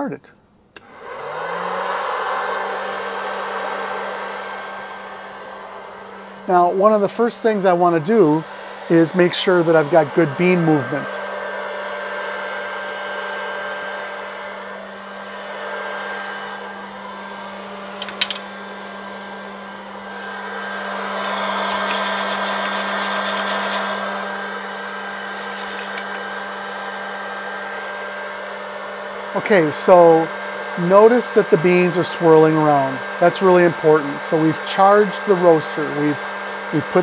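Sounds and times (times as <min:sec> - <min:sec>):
popcorn popper fan humming: 0:00.0 - 0:37.0.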